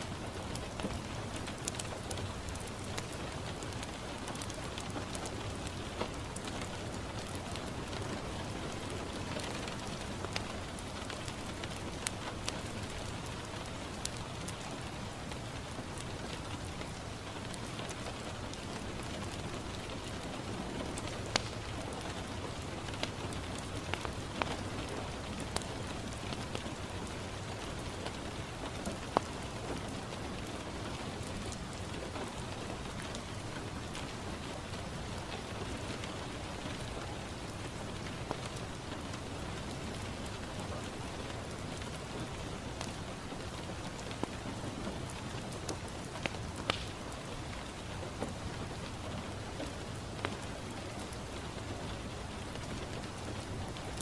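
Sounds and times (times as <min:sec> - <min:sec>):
rain on a window: 0:00.0 - 0:54.0
wood fire crackling: 0:00.0 - 0:54.0.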